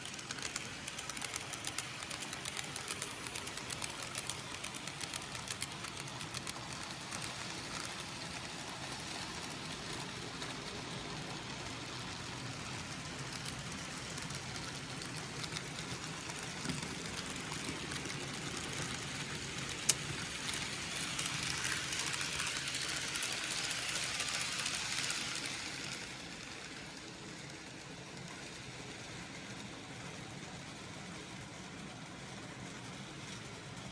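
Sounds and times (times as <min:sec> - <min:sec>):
fine rapid clicking: 0:00.0 - 0:33.9
model train motors whirring: 0:00.0 - 0:33.9.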